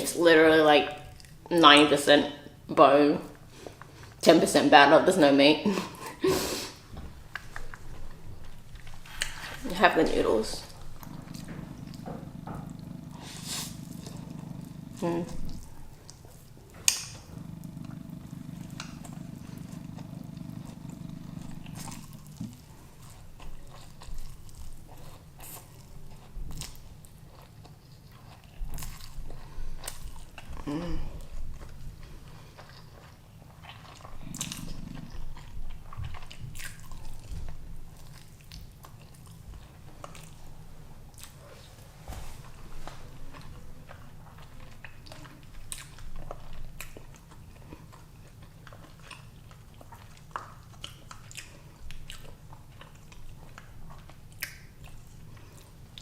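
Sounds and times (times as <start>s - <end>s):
low steady hum: 0.0s - 56.0s
chewing noodles: 0.8s - 1.6s, 5.7s - 56.0s.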